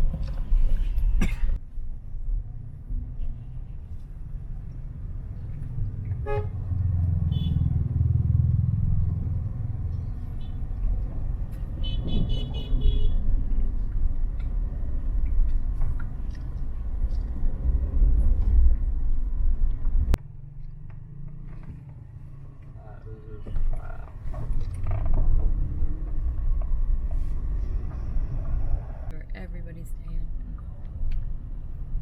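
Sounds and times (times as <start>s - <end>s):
vehicle engine rumble: 0.0s - 32.0s.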